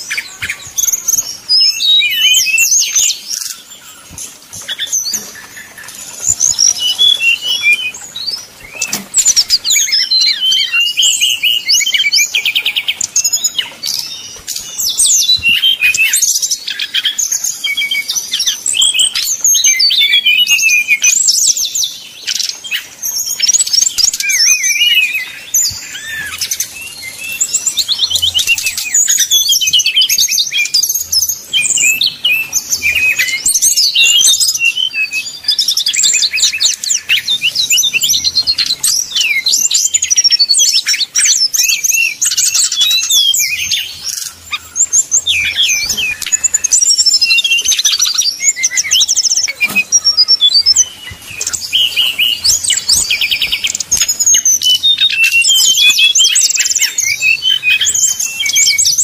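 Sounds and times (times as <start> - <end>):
bird singing whistles and trills: 0.0 - 59.0.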